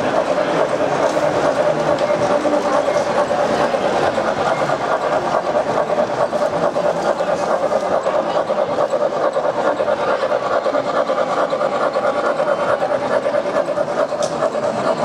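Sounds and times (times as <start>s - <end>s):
fast even clicking: 0.0s - 15.0s
model trains running on track: 0.0s - 15.0s.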